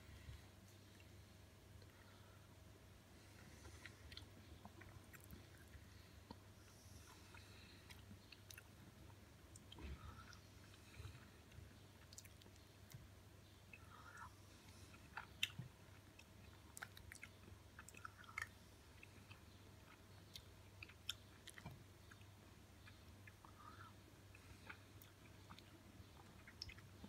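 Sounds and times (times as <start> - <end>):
low steady hum: 0.0 - 27.0
chewing soft fruit: 3.2 - 27.0.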